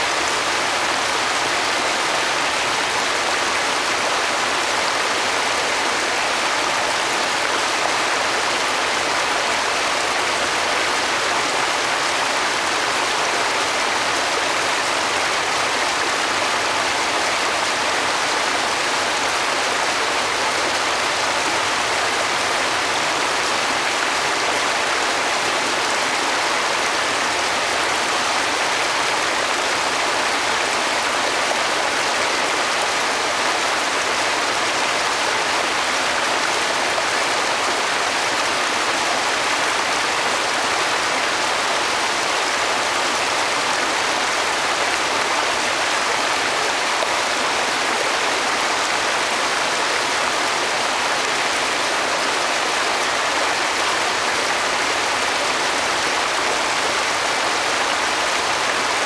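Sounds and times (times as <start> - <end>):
waterfall rushing over boulders: 0.0 - 59.0.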